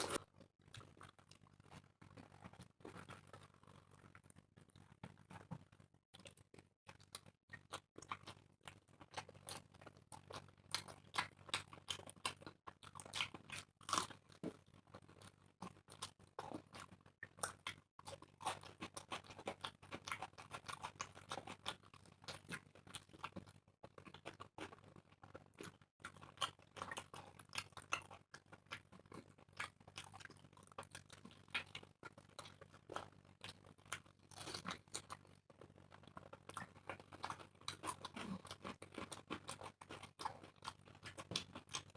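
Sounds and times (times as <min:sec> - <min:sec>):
close chewing and mouth clicks: 0:00.0 - 0:41.9.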